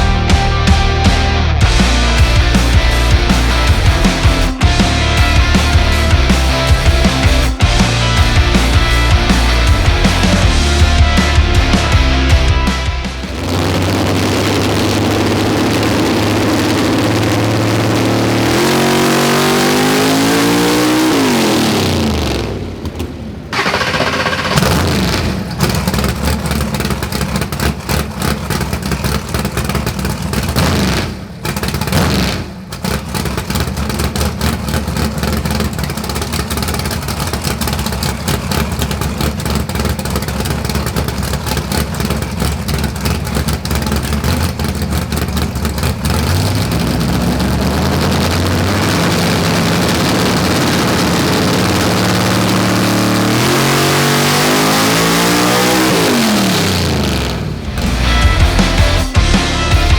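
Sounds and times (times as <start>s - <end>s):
car engine on a dyno: 0.0s - 59.9s.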